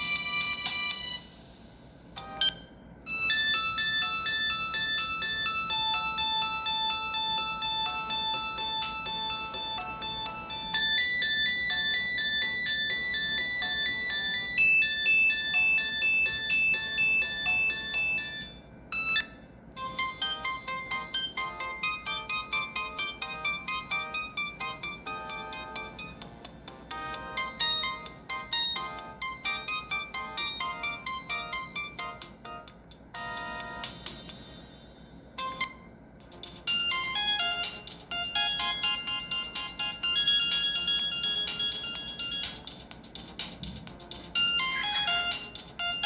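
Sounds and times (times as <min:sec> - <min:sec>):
polyphonic phone ringtone melody: 0:00.0 - 0:01.4, 0:02.2 - 0:34.4, 0:35.4 - 0:46.0.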